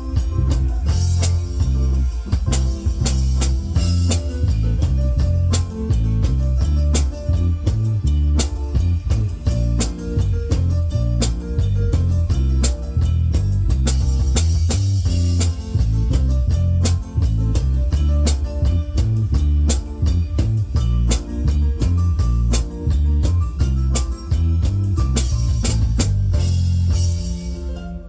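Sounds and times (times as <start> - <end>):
heavy bass line: 0.0 - 27.9
live band playing: 0.0 - 28.0.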